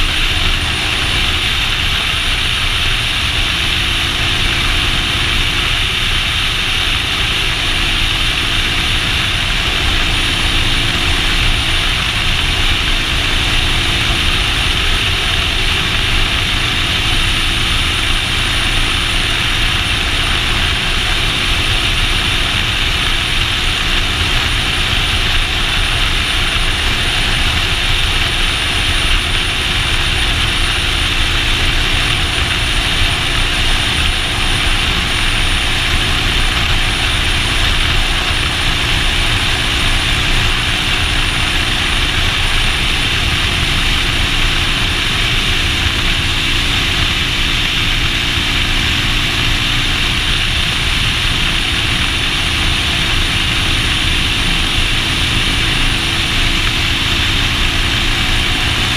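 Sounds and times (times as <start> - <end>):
motorcycle engine hum: 0.0 - 58.9
wind rushing over microphone: 0.0 - 58.9.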